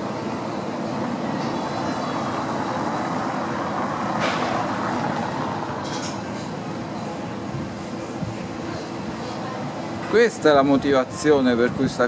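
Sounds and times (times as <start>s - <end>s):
engine low hum: 0.0s - 10.8s
street traffic noise: 0.0s - 12.0s.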